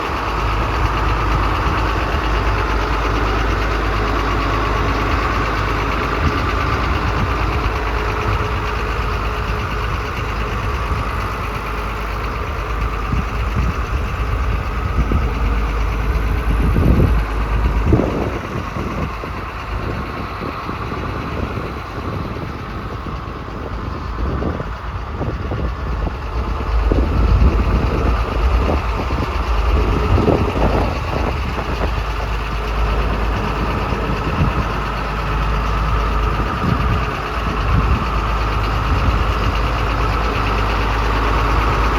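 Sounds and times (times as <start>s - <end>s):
diesel truck engine idling: 0.0s - 41.9s
irregular low rumbles: 0.0s - 41.9s.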